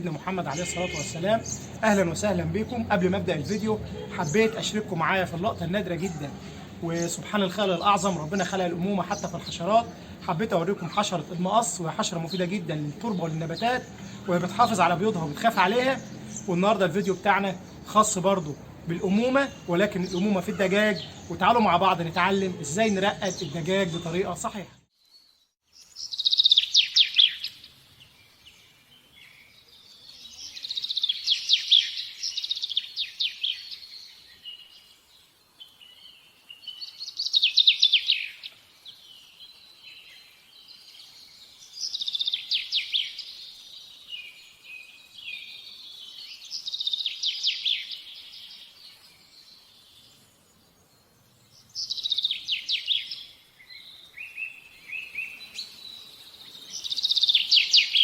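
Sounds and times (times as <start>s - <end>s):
soft bird chirps: 0.0s - 58.0s
songbird singing: 0.0s - 58.0s.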